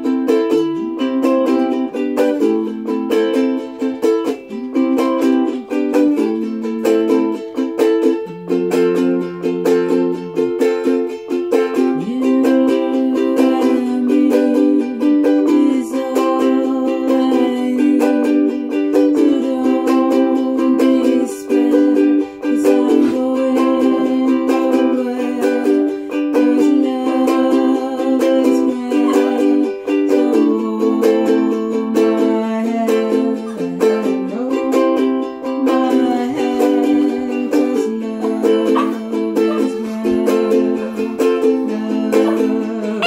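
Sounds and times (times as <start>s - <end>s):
ukulele strumming: 0.0s - 43.0s.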